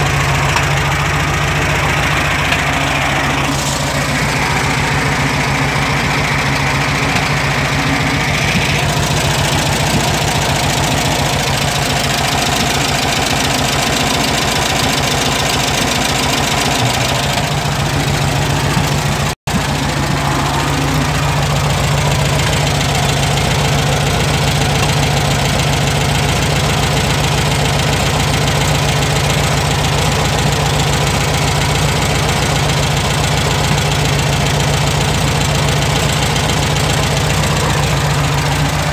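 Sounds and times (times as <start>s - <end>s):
loud car engine idling: 0.0s - 38.9s.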